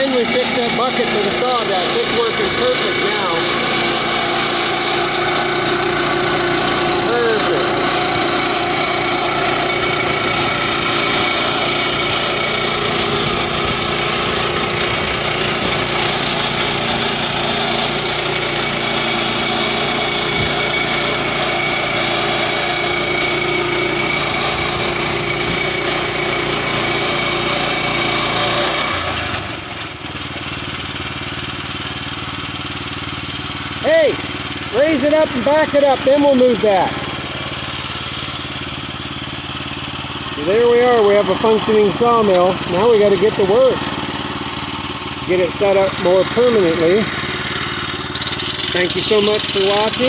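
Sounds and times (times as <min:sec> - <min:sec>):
sawmill engine running: 0:00.0 - 0:50.0.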